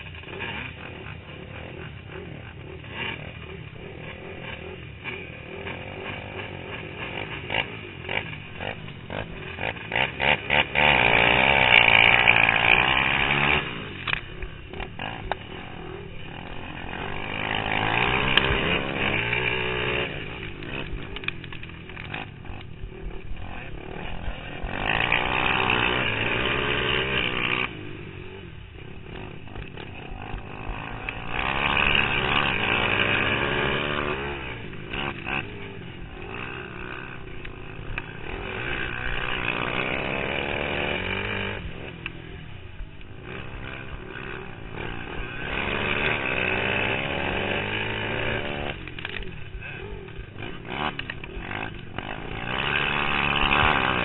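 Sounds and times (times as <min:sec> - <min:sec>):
other trike engines: 0:00.0 - 0:54.0
racing trike engine revving: 0:00.0 - 0:54.0.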